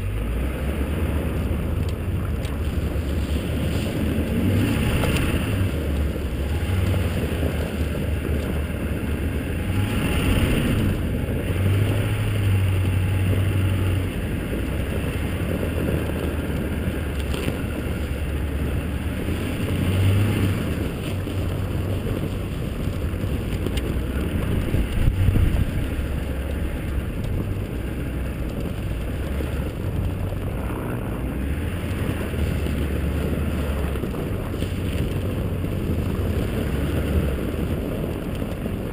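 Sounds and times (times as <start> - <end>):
pickup truck engine rumble: 0.0 - 38.9
wind buffeting microphone: 0.0 - 38.9.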